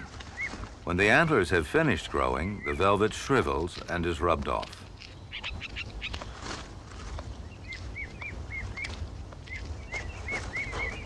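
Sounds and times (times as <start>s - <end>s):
brush rustling and crackling: 0.0s - 11.0s
small bird chirping: 1.6s - 11.0s.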